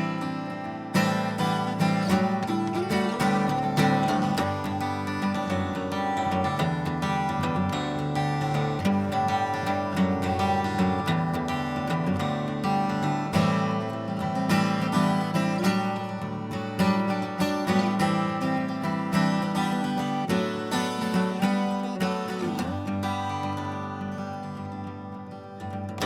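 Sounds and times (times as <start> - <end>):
solo acoustic guitar: 0.0 - 26.0.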